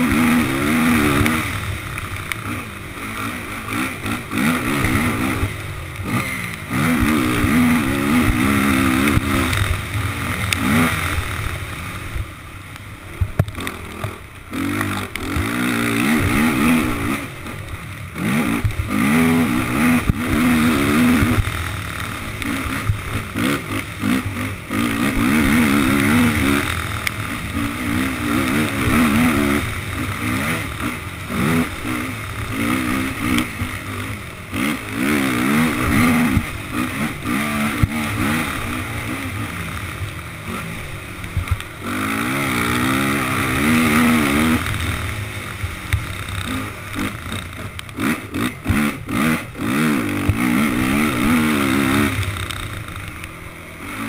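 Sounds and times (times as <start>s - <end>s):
quad engine revving: 0.0s - 12.2s, 13.2s - 54.0s.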